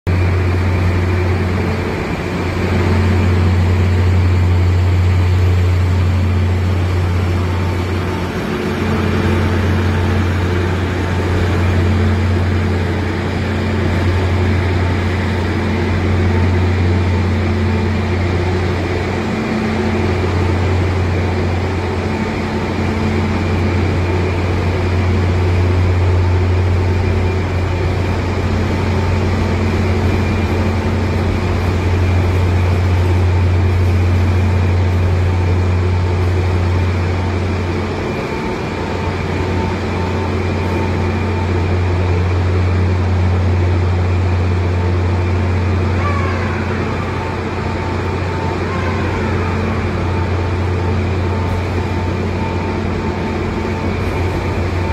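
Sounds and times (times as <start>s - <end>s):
overhead crane drives humming: 0.1s - 54.9s.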